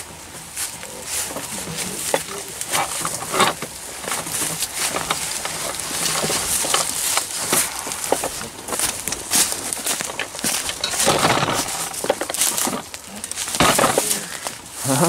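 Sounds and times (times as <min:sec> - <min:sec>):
brush rustling against clothing: 0:00.0 - 0:15.0
footsteps crunching through dry leaves: 0:00.0 - 0:15.0.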